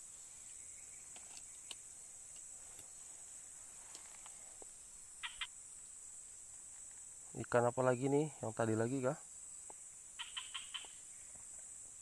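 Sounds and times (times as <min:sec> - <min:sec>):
crickets chirring: 0:00.0 - 0:12.0
short insect calls: 0:00.0 - 0:12.0.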